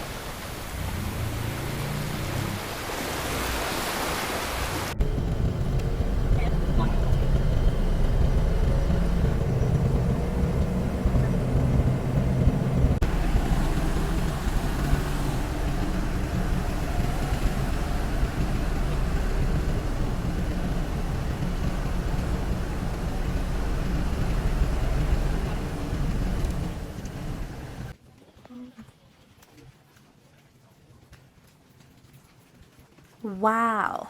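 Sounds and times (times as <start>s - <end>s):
engine rumbling: 0.0s - 28.0s
road noise: 0.0s - 28.0s.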